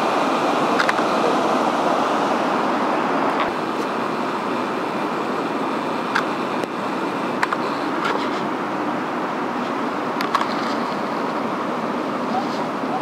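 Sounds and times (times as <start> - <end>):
floodwater pouring over dam: 0.0 - 13.0.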